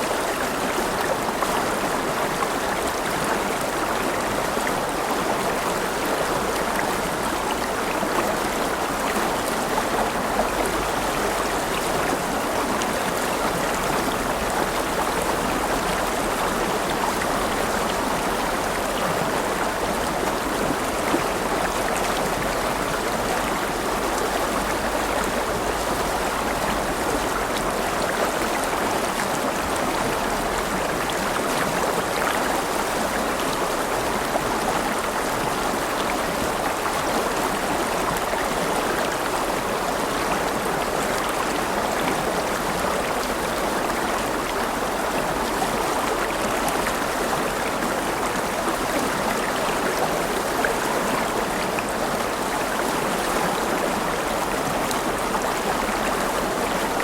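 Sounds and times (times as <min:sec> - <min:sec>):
river water babbling over stones: 0:00.0 - 0:57.0.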